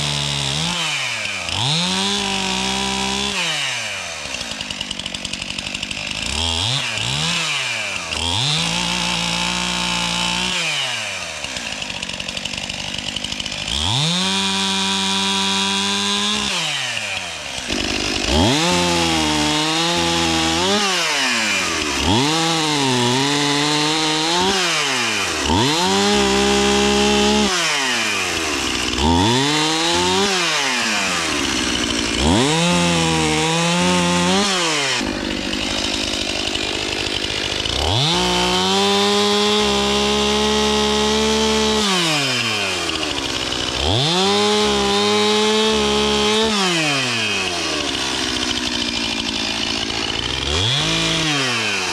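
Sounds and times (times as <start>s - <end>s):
chainsaw revving cutting wood: 0.0s - 51.9s.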